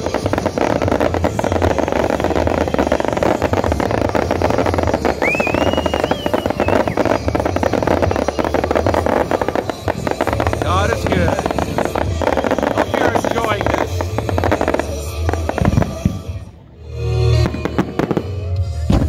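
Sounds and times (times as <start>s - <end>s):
rising firework whistle: 0.0s - 18.4s
fireworks bangs and crackling: 0.0s - 19.0s.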